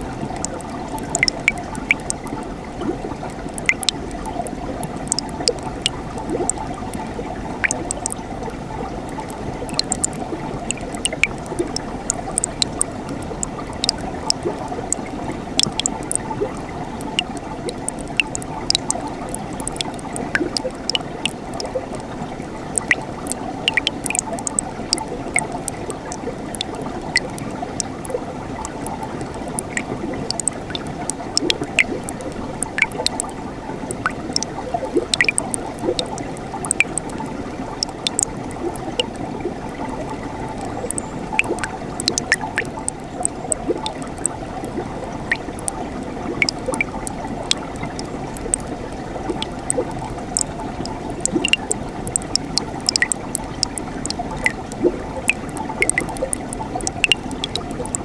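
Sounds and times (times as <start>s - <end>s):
water splashes and drips: 0.0s - 58.0s.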